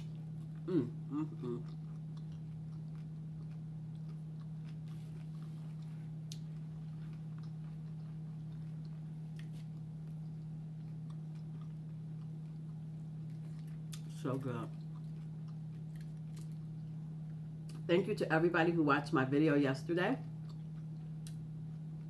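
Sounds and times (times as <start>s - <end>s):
person chewing: 0.0s - 17.9s, 20.2s - 22.0s
low hum: 0.0s - 22.0s.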